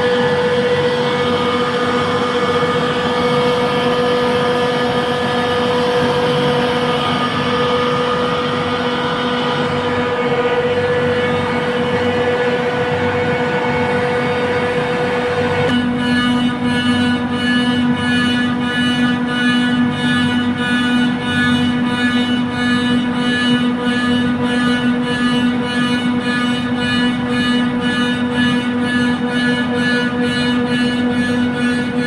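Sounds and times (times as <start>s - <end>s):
chiller compressor running: 0.0s - 32.0s.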